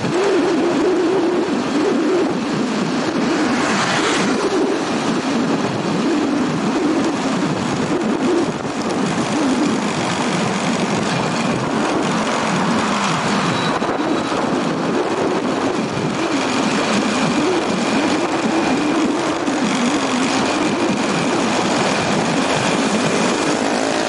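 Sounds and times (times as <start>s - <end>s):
road and wind noise: 0.0s - 24.0s
small motorbike engine running: 0.0s - 24.0s.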